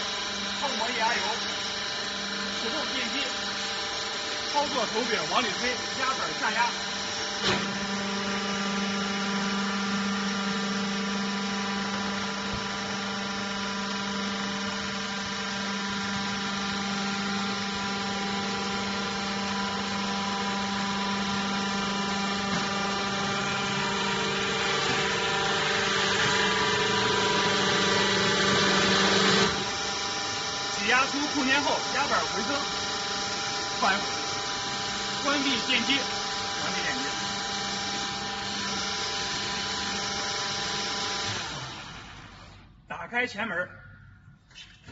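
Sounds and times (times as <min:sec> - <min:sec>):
hydraulic baler motor humming: 0:00.0 - 0:42.8.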